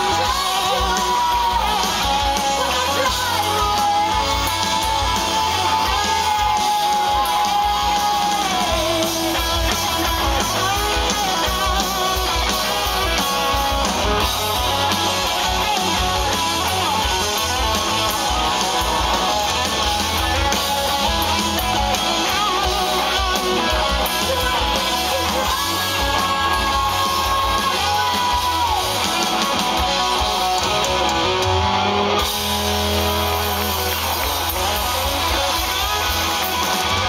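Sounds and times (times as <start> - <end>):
rock band playing: 0.0 - 37.0.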